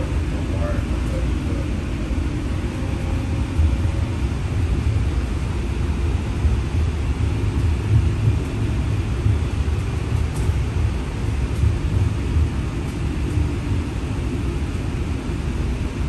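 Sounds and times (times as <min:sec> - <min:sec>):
streetcar rumbling on track: 0:00.0 - 0:16.0.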